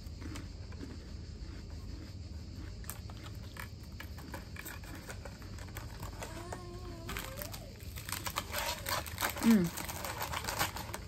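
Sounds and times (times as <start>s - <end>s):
crunching crisp wafer: 0.0s - 11.0s
steady low hum: 0.0s - 11.0s.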